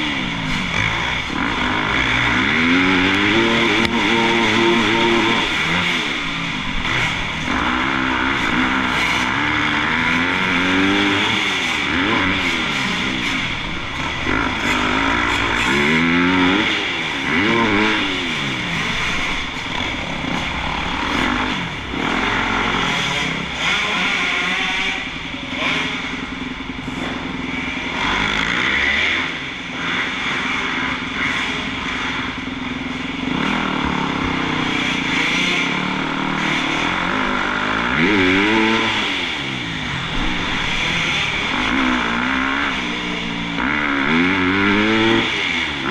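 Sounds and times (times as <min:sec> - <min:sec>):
motocross engines revving: 0:00.0 - 0:45.9.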